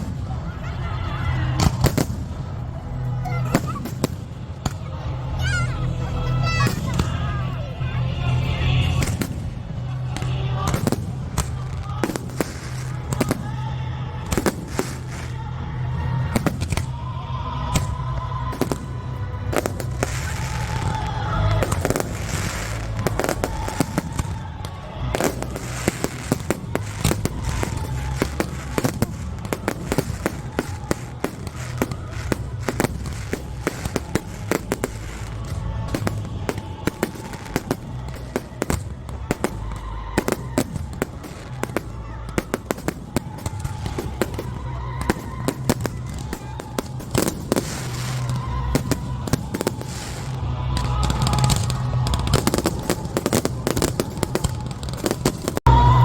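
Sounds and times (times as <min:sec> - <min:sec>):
fireworks bangs and crackles: 0:00.0 - 0:56.0
music playing: 0:00.0 - 0:56.0.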